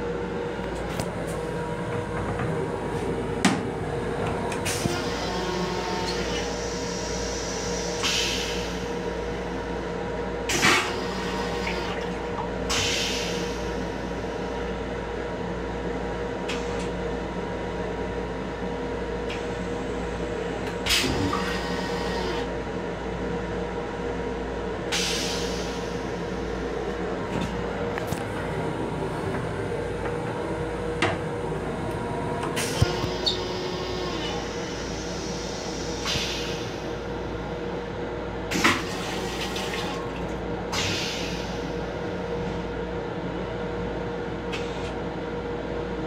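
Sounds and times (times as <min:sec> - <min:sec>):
constant hum: 0:00.0 - 0:46.0
train running low rumble: 0:00.0 - 0:46.0.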